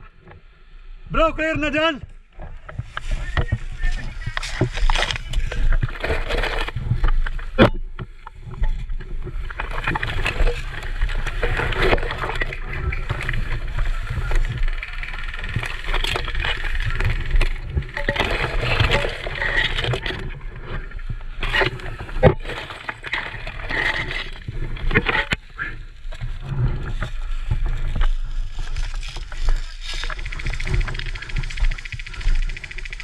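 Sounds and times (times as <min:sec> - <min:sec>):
grass and leaves rustling: 0:02.1 - 0:33.0
microphone handling rumble: 0:02.1 - 0:33.0.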